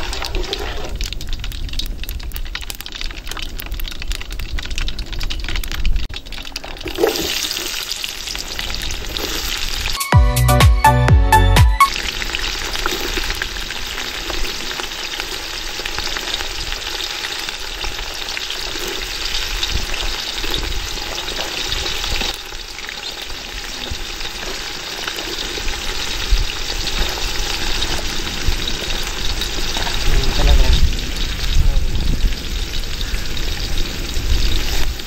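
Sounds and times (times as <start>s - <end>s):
shallots sizzling in hot oil: 0.0s - 10.0s, 11.9s - 35.0s.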